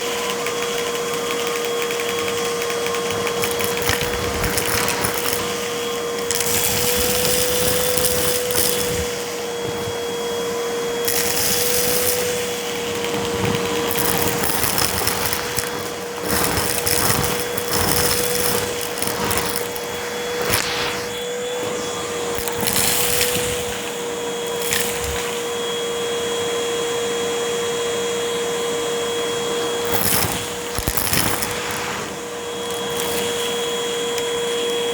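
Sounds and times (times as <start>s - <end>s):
vacuum cleaner motor whine: 0.0s - 34.9s
vacuum sucking up crunchy debris: 0.0s - 34.9s.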